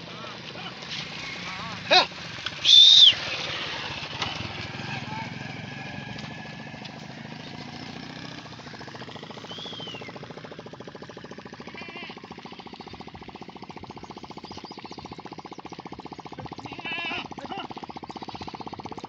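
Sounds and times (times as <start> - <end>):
small engine chugging: 0.0 - 19.0.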